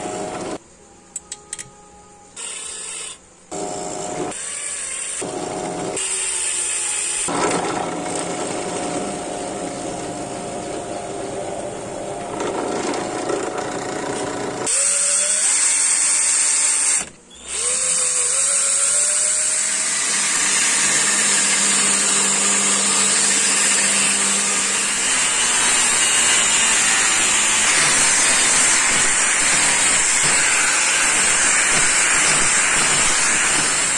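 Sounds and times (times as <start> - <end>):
electric drill boring into wood: 2.4 - 10.6, 12.3 - 33.9.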